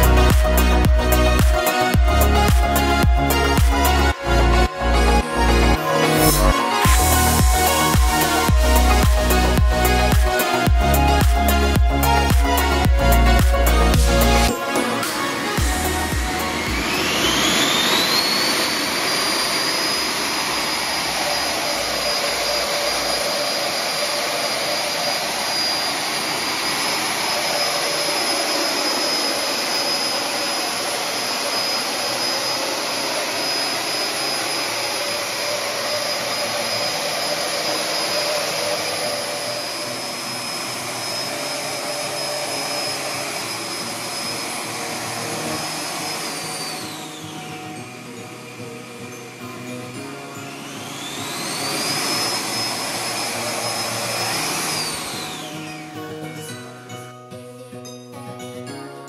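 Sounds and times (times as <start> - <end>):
rushing air: 0.0 - 49.2, 50.6 - 55.9
electric fan high whine: 0.0 - 57.7.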